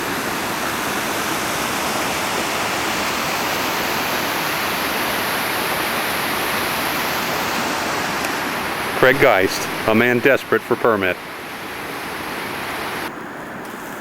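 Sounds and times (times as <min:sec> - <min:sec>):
whitewater rushing: 0:00.0 - 0:13.1.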